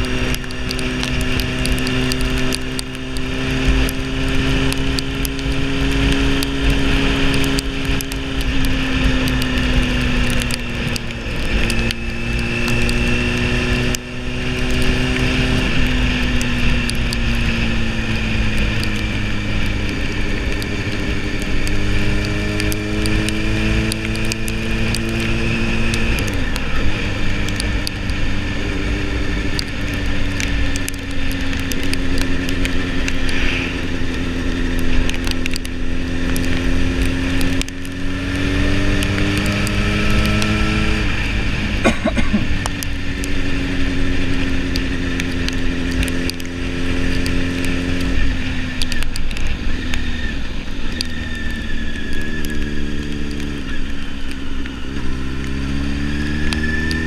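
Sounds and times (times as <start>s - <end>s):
motorcycle engine revving: 0.0s - 57.0s
wind rushing over microphone: 0.0s - 57.0s.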